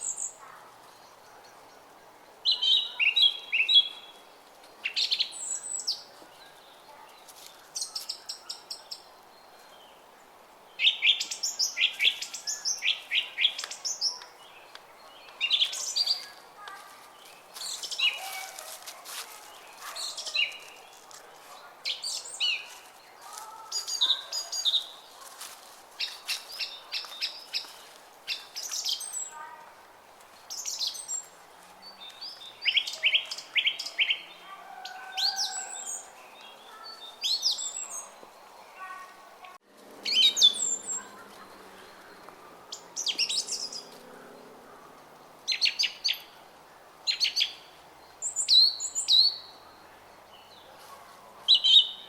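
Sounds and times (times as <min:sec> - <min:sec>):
songbirds chirping and twittering: 0:00.0 - 0:52.0.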